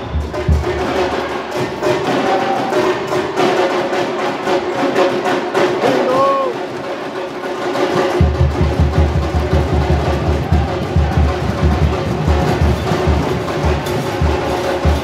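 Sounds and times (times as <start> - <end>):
fast percussion rhythm: 0.0 - 15.0.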